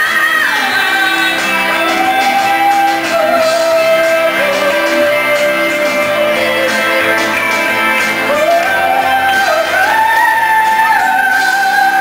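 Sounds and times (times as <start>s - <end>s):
woman singing into a microphone: 0.0s - 7.3s, 8.3s - 12.0s
instrumental music: 0.0s - 12.0s.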